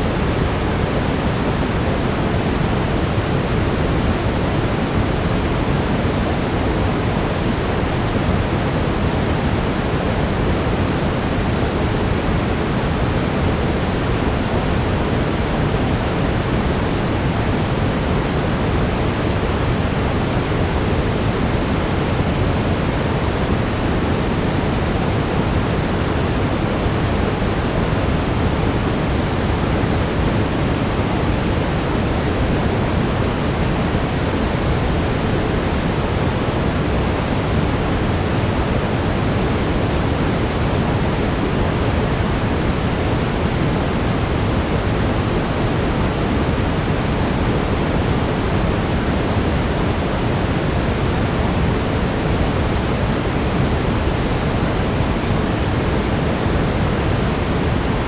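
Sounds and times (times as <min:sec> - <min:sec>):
brown noise: 0:00.0 - 0:58.0.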